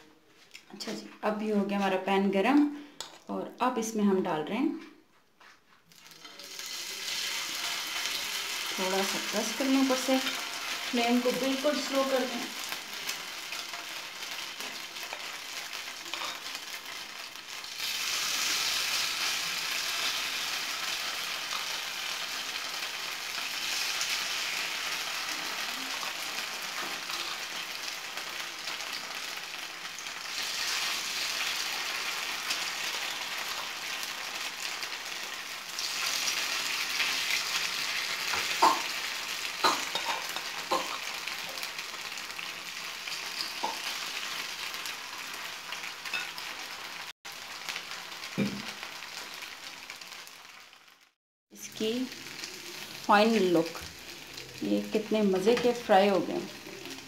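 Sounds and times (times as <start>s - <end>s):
batter sizzling in frying pan: 5.9s - 57.0s.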